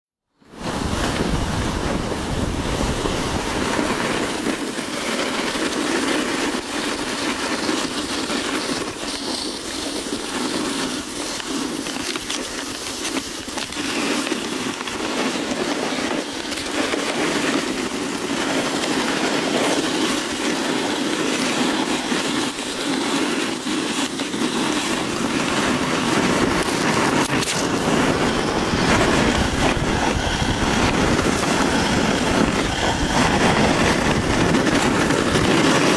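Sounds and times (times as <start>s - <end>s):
wind on microphone: 0.4s - 35.9s
fabric rubbing on microphone: 0.6s - 35.9s.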